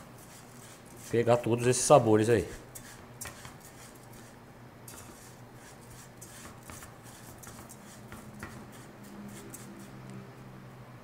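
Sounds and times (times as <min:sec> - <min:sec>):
rice rustling and scraping in pan: 0:00.0 - 0:01.4, 0:02.4 - 0:10.0.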